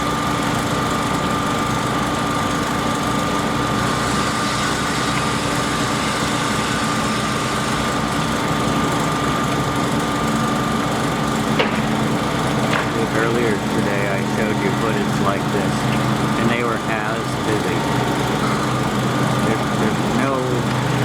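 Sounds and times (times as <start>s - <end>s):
engine running steadily: 0.0s - 21.0s
high whine: 0.0s - 21.0s.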